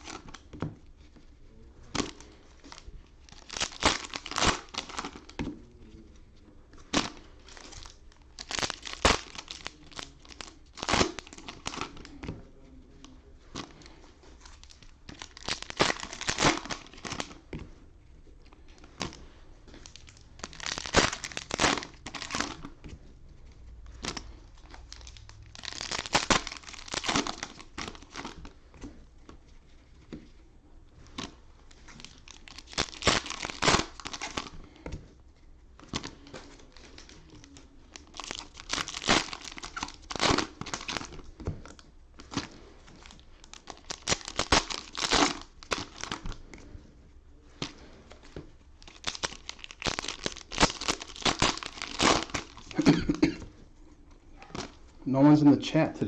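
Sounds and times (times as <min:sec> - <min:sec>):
cellophane wrappers crinkling: 0:00.0 - 0:55.0.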